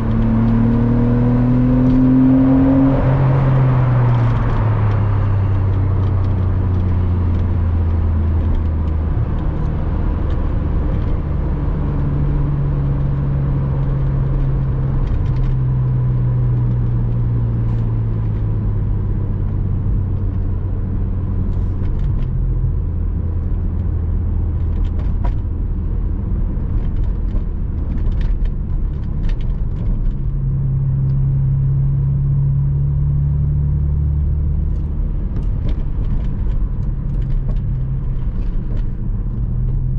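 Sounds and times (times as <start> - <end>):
car engine droning: 0.0 - 39.9
road and tyre noise: 0.0 - 39.9.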